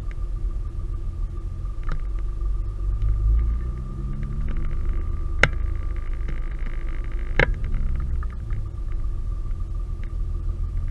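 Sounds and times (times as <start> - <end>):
car engine low rumble: 0.0 - 10.9.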